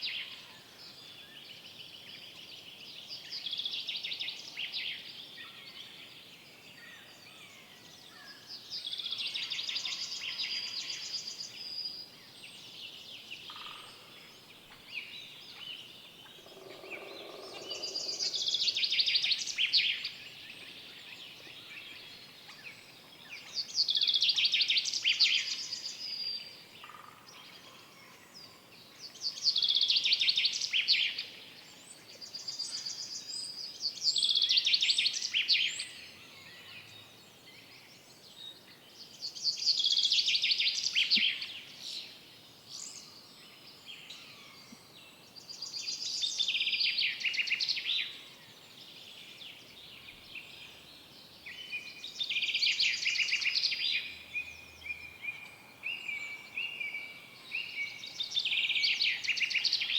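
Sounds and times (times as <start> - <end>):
faint birdsong: 0.0 - 59.9.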